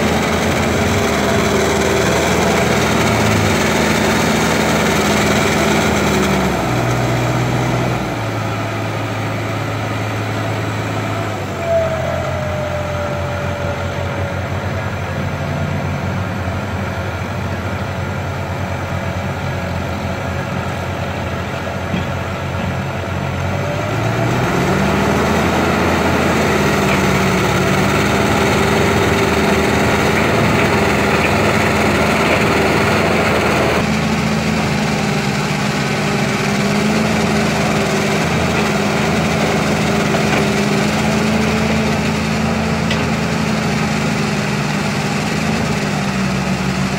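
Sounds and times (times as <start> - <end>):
heavy diesel engine revving: 0.0 - 46.9.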